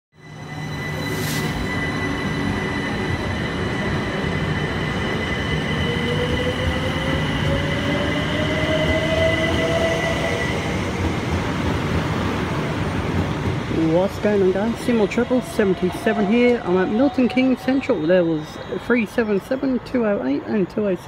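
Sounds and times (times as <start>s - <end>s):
electric train rumble and whine: 0.2s - 21.0s.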